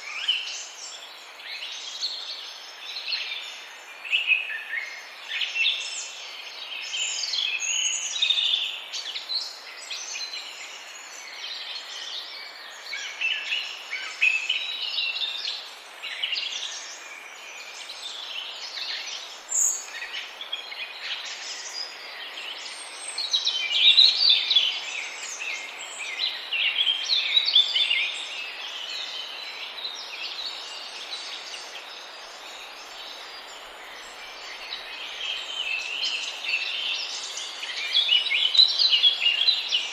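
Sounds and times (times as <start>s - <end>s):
background hiss: 0.0s - 39.9s
small birds chirping: 0.0s - 39.9s.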